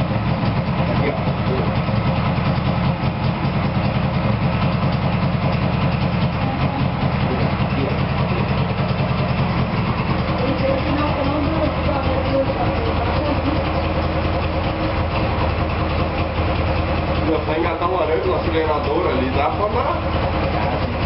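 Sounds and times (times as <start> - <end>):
two-stroke engine idling: 0.0 - 21.0.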